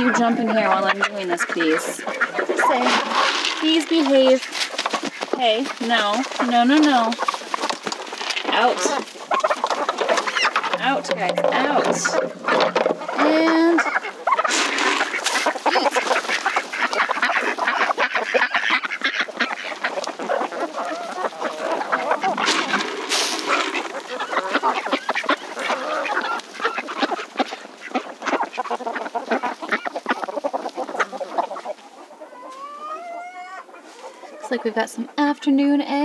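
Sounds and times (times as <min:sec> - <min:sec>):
ducks quacking: 0:00.0 - 0:35.3
chickens: 0:00.0 - 0:36.0.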